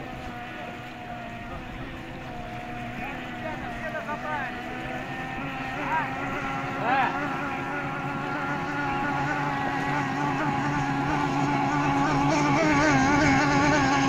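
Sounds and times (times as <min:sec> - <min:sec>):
racing outboard motor: 0:00.0 - 0:14.0.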